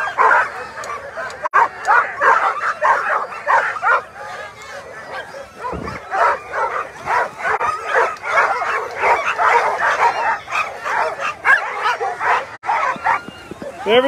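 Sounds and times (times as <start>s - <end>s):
sled dogs barking and yelping: 0.0s - 14.0s.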